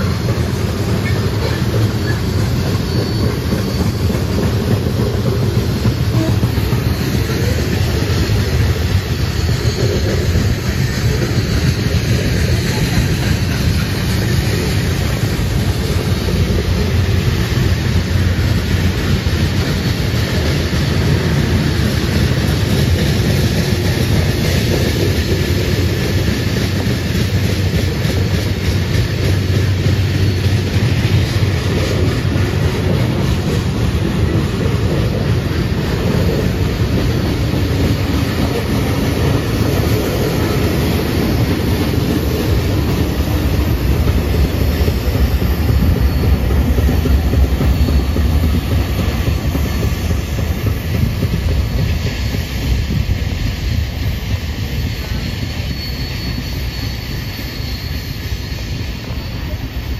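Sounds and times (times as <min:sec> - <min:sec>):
high wheel squeal: 0:00.0 - 0:59.9
train rumbling over track: 0:00.0 - 0:59.9.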